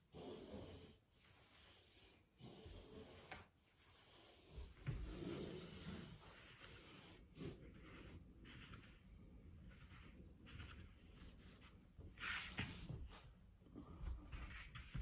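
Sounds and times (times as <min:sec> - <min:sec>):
foam roller rubbing on floor: 0:00.0 - 0:13.4.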